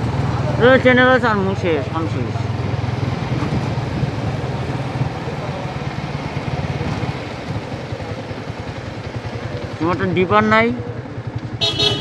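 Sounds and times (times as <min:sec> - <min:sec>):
motorcycle engine running: 0:00.0 - 0:12.0
road and air noise: 0:00.0 - 0:12.0.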